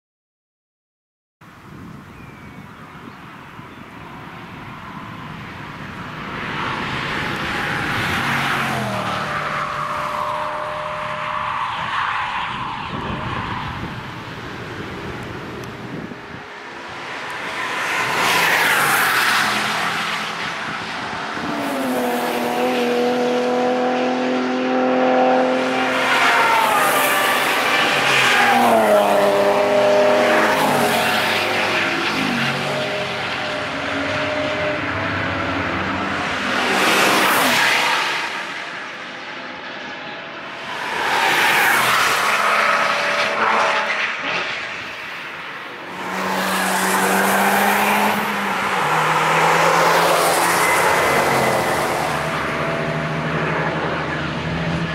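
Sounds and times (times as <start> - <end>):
race cars passing revving: 3.6 - 54.9.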